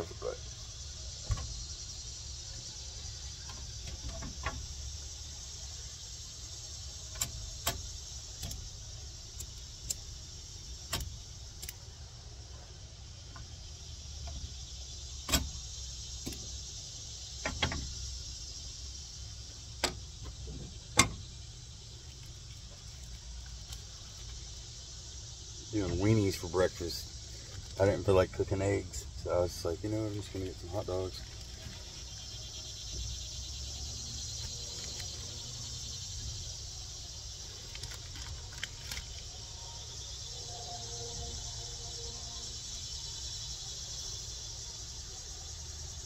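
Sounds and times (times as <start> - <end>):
insect buzz: 0.0 - 46.0.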